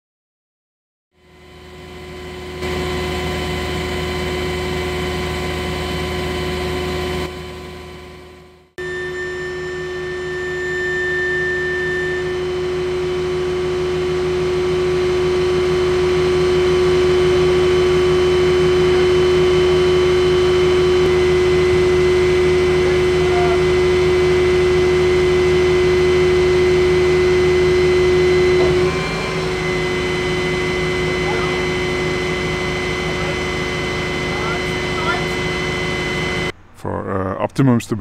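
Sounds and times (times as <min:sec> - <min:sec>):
crane power pack whine and hum: 0:01.2 - 0:37.0.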